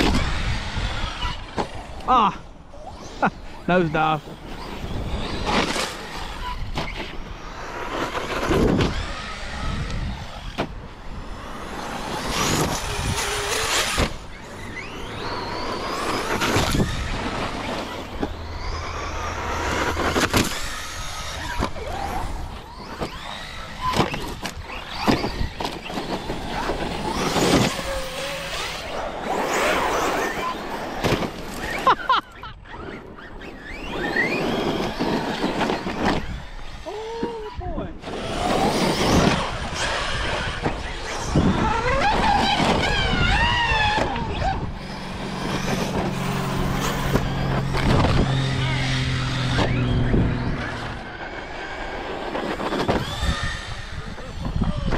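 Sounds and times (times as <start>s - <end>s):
tyres on gravel: 0.0s - 54.9s
electric motor whine: 2.8s - 32.2s, 33.0s - 54.9s.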